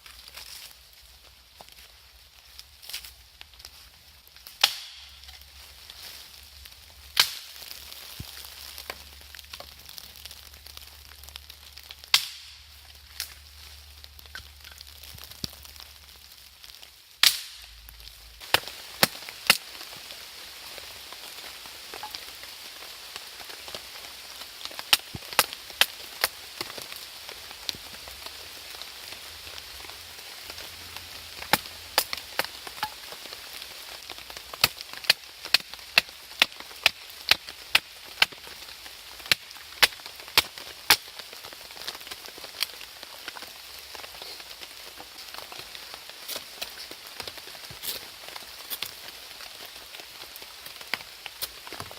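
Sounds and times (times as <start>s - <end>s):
campfire crackling and popping: 0.0s - 51.9s
falling rain hiss: 0.0s - 51.9s.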